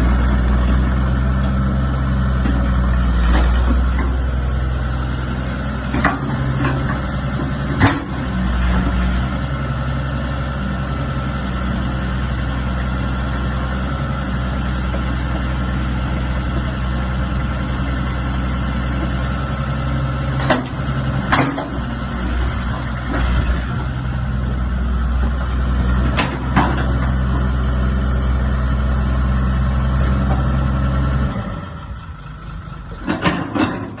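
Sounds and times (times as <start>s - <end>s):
diesel excavator engine running: 0.0s - 34.0s.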